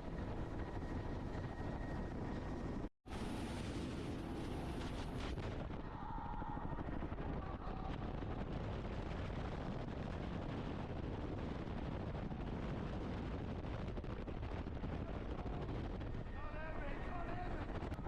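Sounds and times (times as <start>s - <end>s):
helicopter rotor and engine: 0.0s - 5.8s, 6.4s - 18.0s
wind buffeting microphone: 0.0s - 18.0s.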